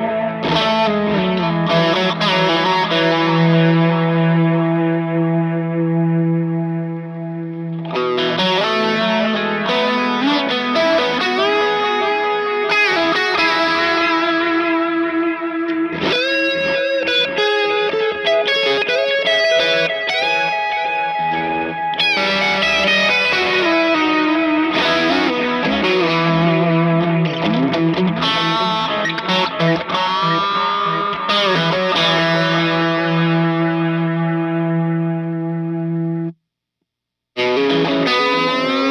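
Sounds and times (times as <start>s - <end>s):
electric guitar with delay: 0.0s - 36.4s, 37.4s - 38.9s.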